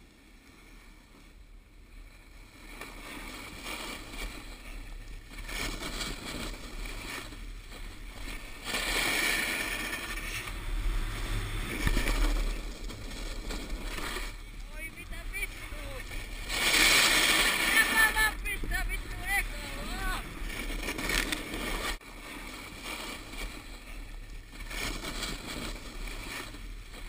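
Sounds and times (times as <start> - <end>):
snowboard edges scraping on snow: 0.0 - 27.0
wind rumble on microphone: 0.0 - 27.0.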